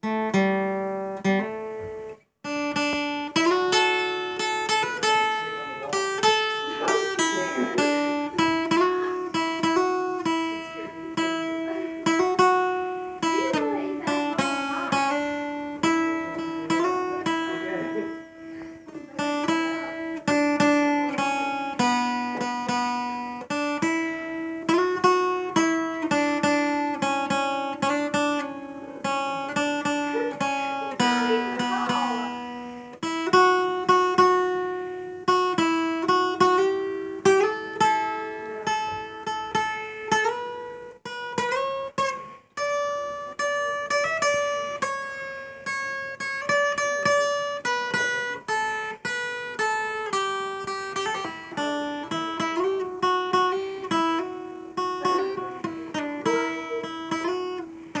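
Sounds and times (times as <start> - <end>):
acoustic guitar playing: 0.0 - 58.0.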